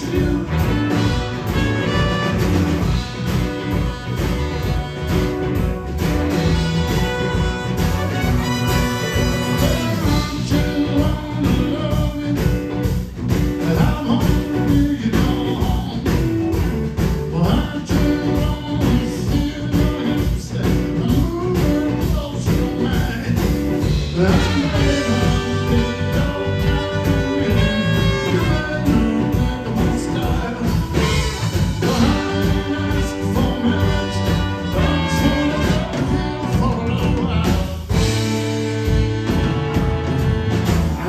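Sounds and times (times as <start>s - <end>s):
blues-rock band playing: 0.0s - 41.0s
steady drum beat: 0.0s - 41.0s.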